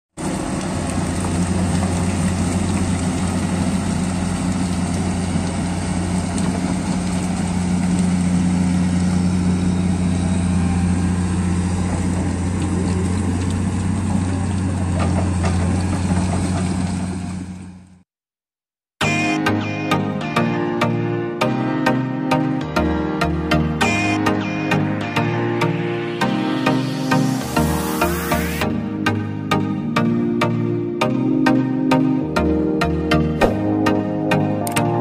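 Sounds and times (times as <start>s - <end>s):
excavator diesel engine humming: 0.2s - 18.0s, 19.0s - 35.0s.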